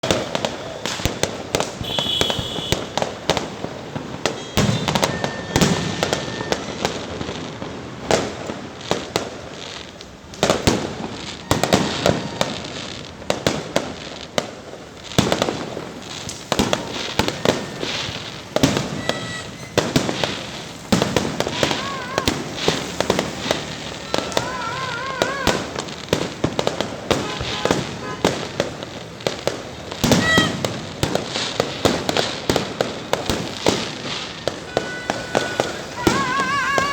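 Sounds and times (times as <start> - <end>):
firework shell bursts and crackling: 0.0 - 36.9
firework whistling: 0.0 - 36.9.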